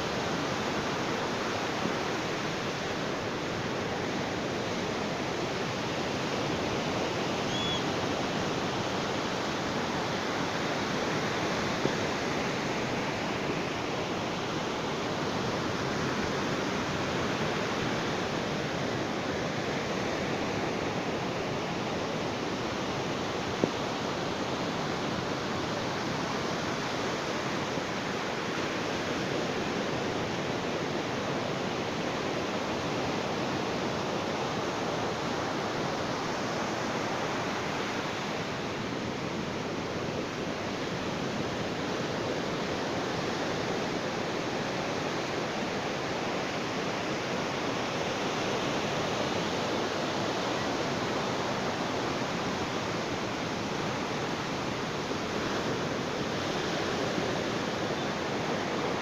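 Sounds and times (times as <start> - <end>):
ocean surf on a beach: 0.0 - 59.0.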